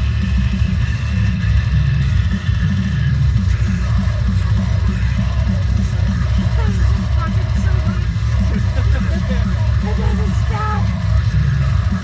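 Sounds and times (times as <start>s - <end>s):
heavy metal music: 0.0s - 12.0s.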